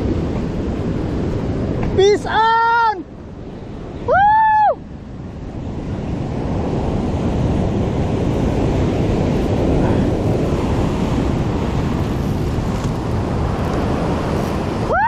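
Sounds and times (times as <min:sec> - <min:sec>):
surf breaking over rocks: 0:00.0 - 0:15.0
wind rumbling on microphone: 0:00.0 - 0:15.0.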